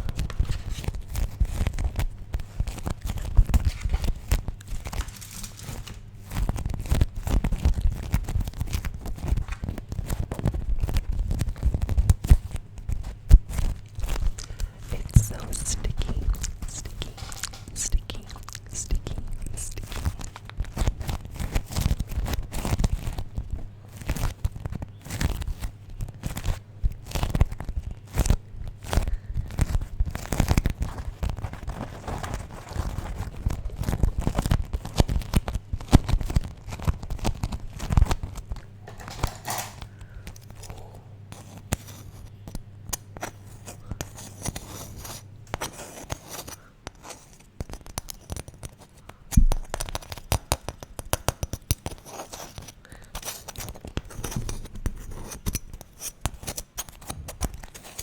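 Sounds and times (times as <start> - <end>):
wax wraps crinkling and crackling: 0.0 - 58.0.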